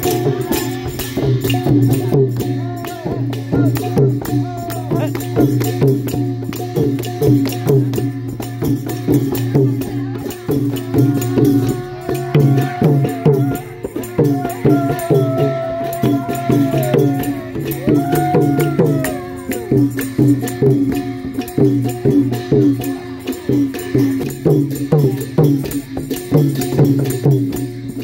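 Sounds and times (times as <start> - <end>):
long drum ensemble rhythm: 0.0 - 28.0
tambourine rattling: 0.0 - 28.0.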